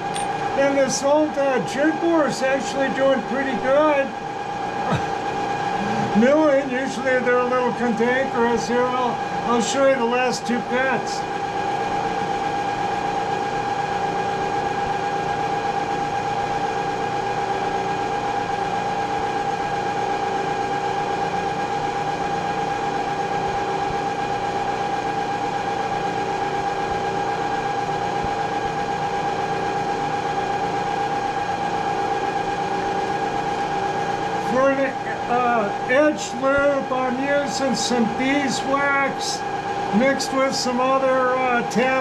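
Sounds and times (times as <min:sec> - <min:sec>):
machine spindle humming: 0:00.0 - 0:42.0.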